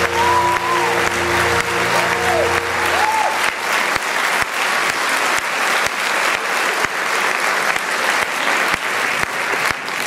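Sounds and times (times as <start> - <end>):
audience applauding: 0.0 - 10.0
sharp claps: 0.0 - 10.0.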